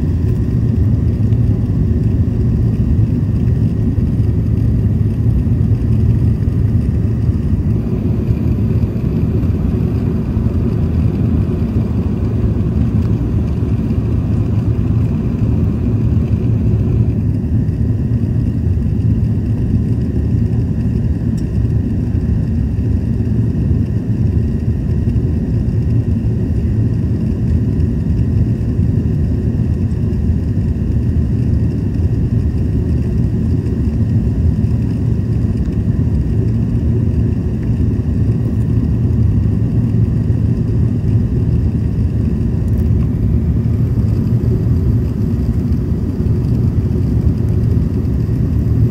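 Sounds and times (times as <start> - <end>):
jet engines rumbling in cabin: 0.0 - 48.9.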